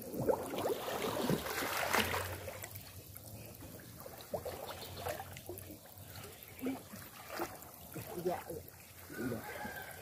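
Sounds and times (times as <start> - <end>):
water sloshing and trickling: 0.0 - 10.0
water splashing: 0.0 - 10.0.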